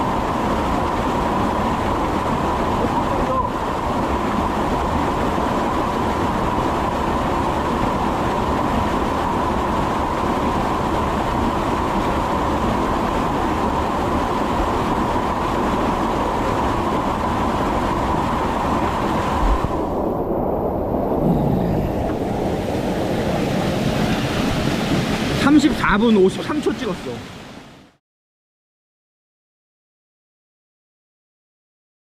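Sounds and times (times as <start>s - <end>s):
constant whine: 0.0s - 27.1s.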